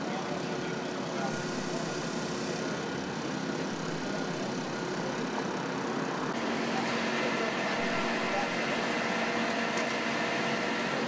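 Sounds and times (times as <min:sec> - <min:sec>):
engines and machinery droning: 0:00.0 - 0:11.0.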